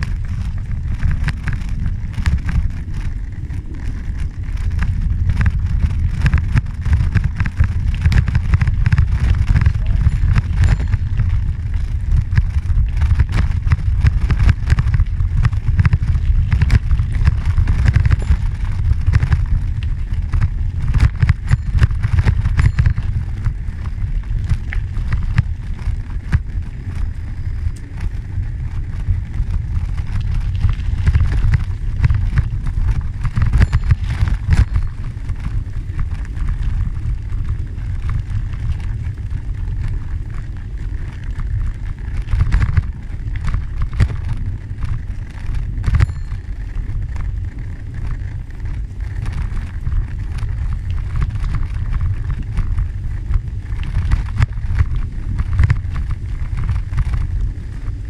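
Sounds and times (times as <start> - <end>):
gravel clicks and crunches: 0.0 - 58.0
wind rumble on microphone: 0.0 - 58.0.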